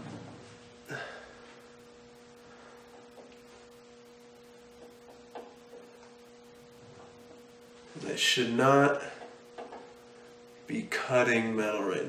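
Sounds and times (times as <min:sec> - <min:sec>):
milling machine spindle humming: 0:00.0 - 0:12.0.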